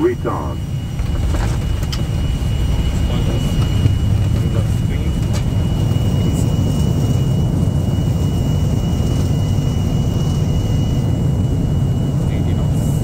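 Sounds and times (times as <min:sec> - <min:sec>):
engines and wheels rumbling: 0:00.0 - 0:13.0.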